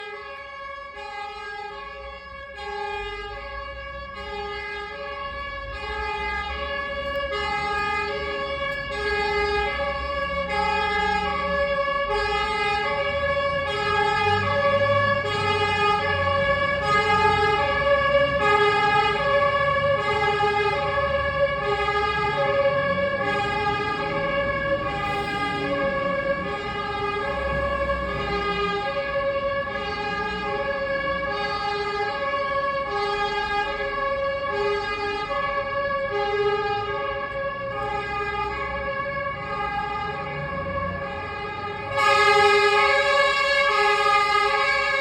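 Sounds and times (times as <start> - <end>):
low traffic rumble: 0.0 - 45.0
two-tone siren: 0.0 - 45.0.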